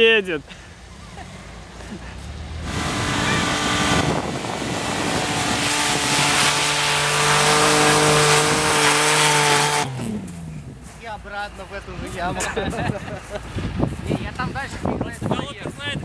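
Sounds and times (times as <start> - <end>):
vehicle engine under load: 0.3 - 14.9.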